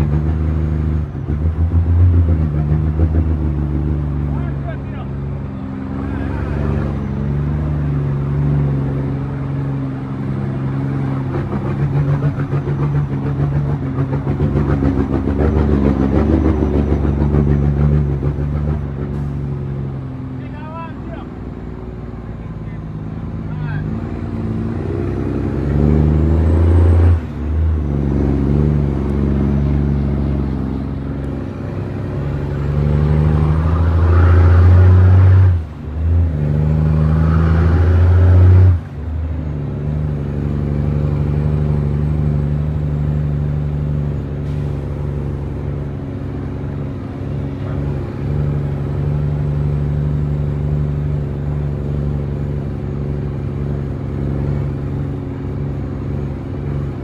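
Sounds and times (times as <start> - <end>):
truck diesel engine pulling hard: 0.0 - 57.0.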